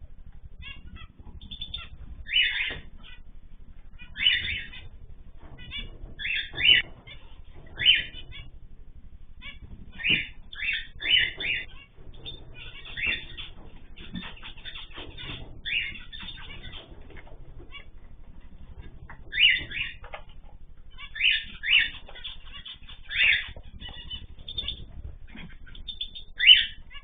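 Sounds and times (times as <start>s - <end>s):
cage birds chirping: 0.0s - 27.0s
faint low hum: 0.0s - 27.0s.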